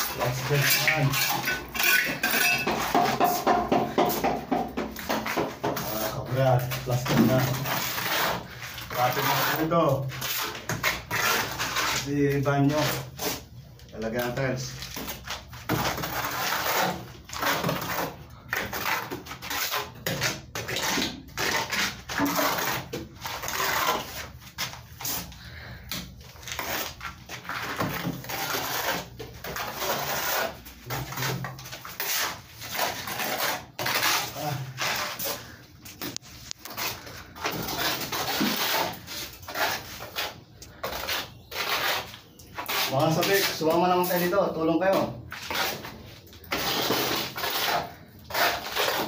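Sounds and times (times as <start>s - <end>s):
trowel scraping plaster on wall: 0.0s - 49.0s.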